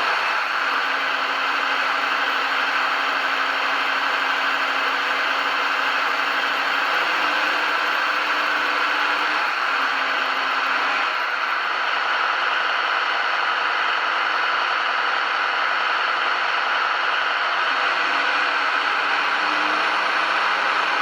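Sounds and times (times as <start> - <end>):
hissy diesel engine drone: 0.0 - 21.0.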